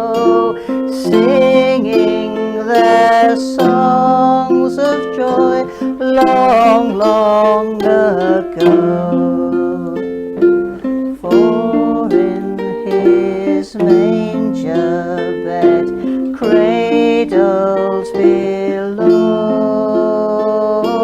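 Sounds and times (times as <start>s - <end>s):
plucked string instrument music: 0.0s - 21.0s.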